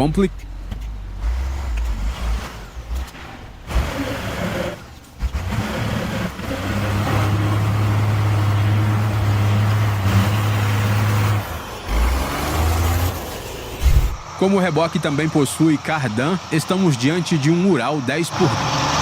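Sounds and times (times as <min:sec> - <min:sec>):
diesel truck engine droning: 0:00.0 - 0:19.0.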